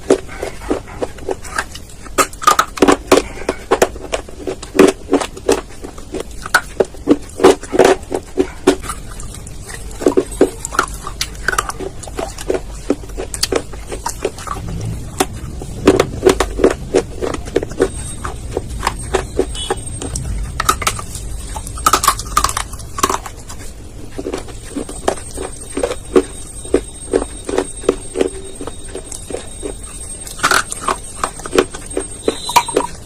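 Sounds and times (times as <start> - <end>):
crunchy chewing of clay: 0.0 - 33.0.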